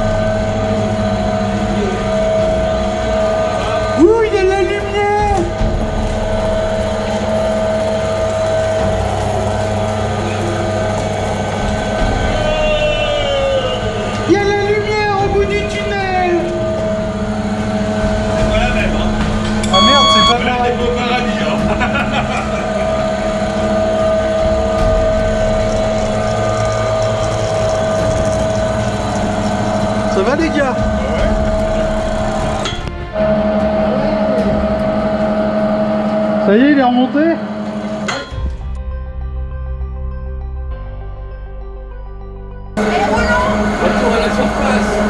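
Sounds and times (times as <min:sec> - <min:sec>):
motorised winch humming: 0:00.0 - 0:38.8, 0:42.8 - 0:45.0.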